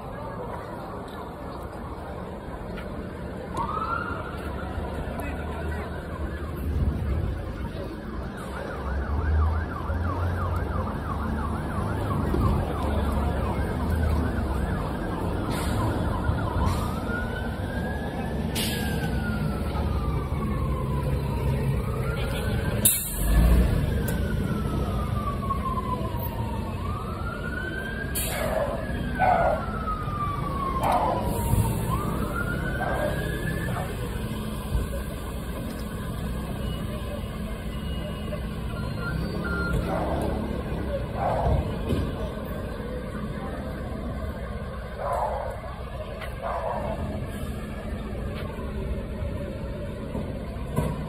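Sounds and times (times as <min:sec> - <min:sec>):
emergency vehicle siren: 0:00.0 - 0:51.0.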